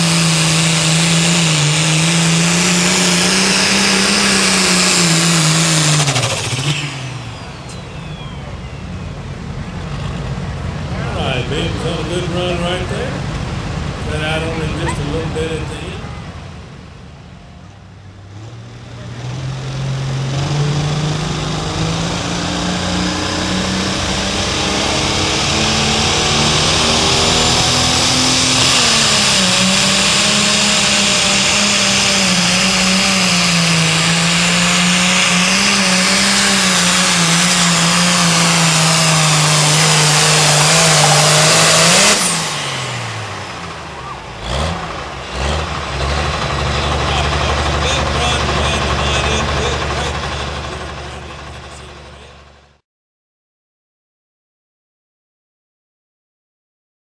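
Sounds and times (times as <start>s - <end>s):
diesel tractor engine at full throttle: 0.0s - 52.8s.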